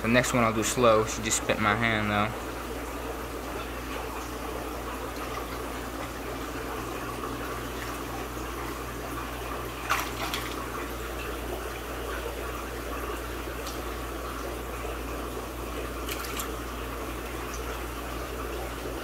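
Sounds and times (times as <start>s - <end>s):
low steady hum: 0.0s - 19.0s
running water: 0.0s - 19.0s
water splashes: 0.0s - 19.0s.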